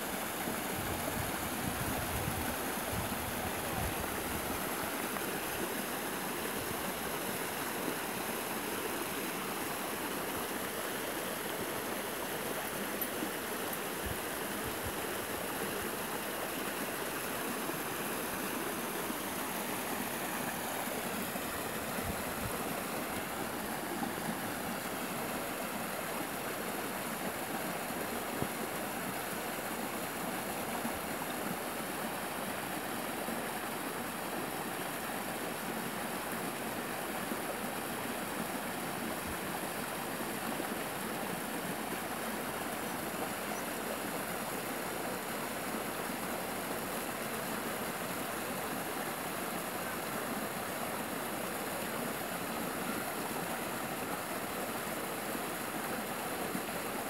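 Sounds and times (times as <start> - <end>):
small stream running: 0.0 - 57.0.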